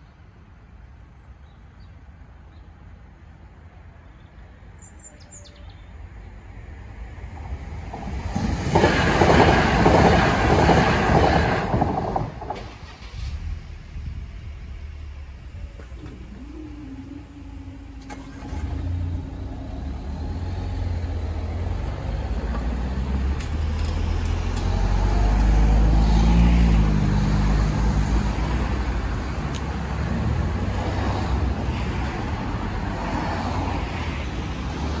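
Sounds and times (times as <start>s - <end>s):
cars driving past: 6.6s - 35.0s.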